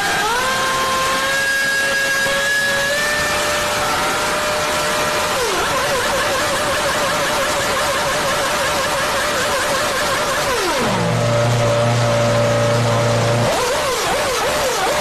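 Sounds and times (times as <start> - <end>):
racing car engine revving: 0.0 - 15.0.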